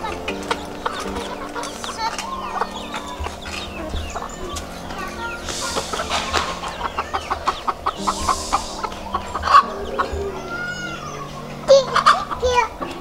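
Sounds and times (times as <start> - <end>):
hens clucking: 0.0 - 13.0
soft background music: 0.0 - 13.0.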